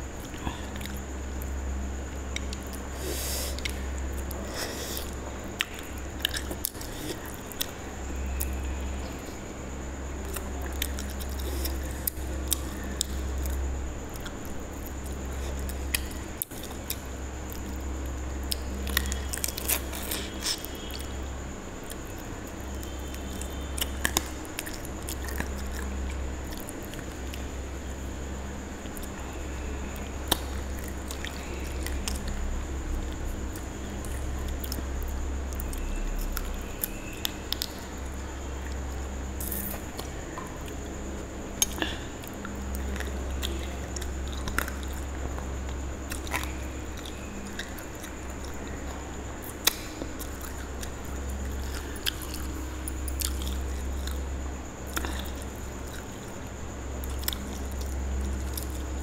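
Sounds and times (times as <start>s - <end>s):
close chewing and mouth smacks: 0.2s - 1.5s, 2.1s - 9.6s, 10.2s - 21.2s, 21.8s - 27.6s, 28.8s - 59.0s.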